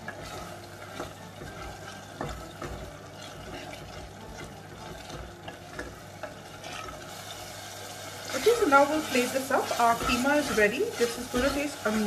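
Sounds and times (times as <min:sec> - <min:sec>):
mince simmering and bubbling: 0:00.0 - 0:12.0
spoon stirring mince: 0:00.0 - 0:12.0.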